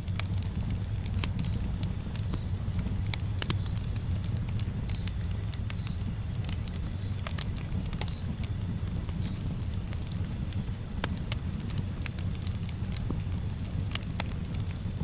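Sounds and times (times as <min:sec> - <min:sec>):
campfire flames rumbling: 0:00.0 - 0:15.0
wood crackling and popping: 0:00.0 - 0:15.0.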